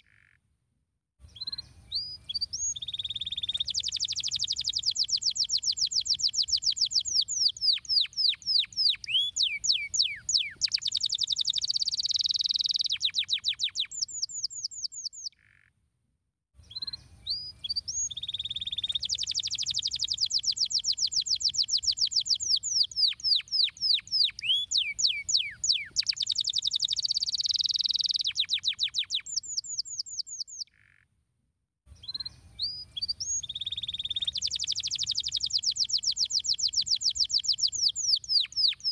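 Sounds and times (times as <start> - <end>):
canary singing: 1.4 - 15.4, 16.7 - 30.8, 32.0 - 38.9.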